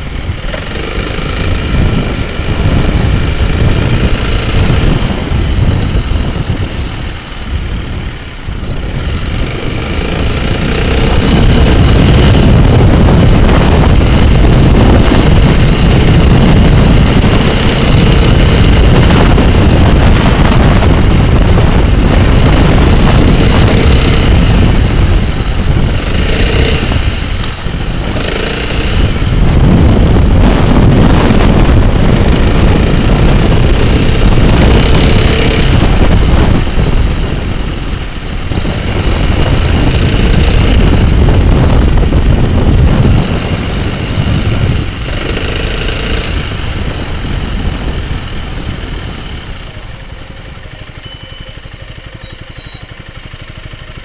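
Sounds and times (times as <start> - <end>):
scooter engine running: 0.0 - 54.0
wind buffeting: 0.0 - 54.0.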